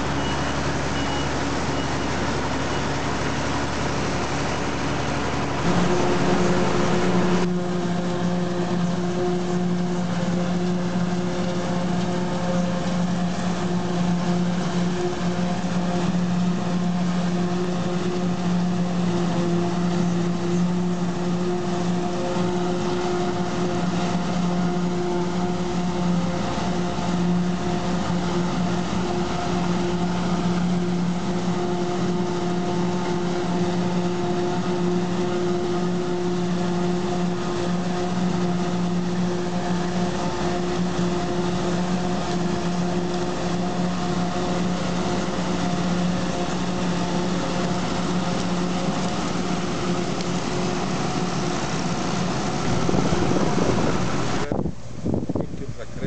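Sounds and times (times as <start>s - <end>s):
harvester engine and chopper drone: 0.0s - 56.0s.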